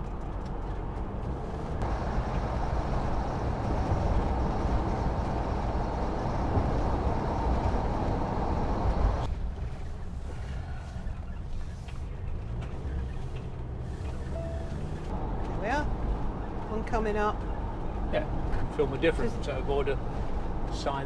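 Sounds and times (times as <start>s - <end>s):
road and engine noise: 0.0s - 21.0s.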